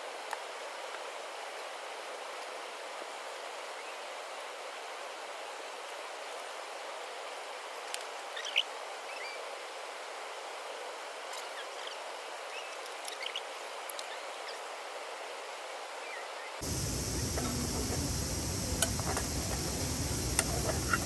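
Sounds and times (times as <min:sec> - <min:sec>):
running water or rain: 0:00.0 - 0:21.0.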